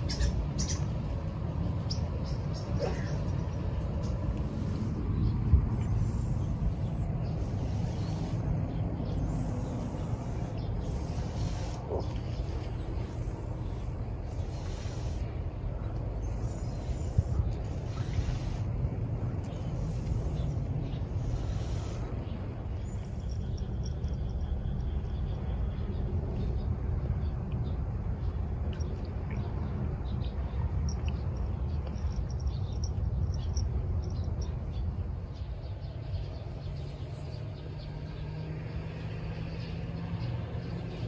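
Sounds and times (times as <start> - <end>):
low steady drone: 0.0 - 41.0.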